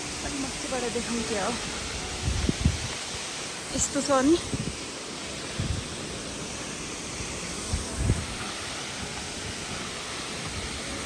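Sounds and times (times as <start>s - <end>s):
waterfall rushing: 0.0s - 11.0s
wind buffets on microphone: 0.1s - 11.0s.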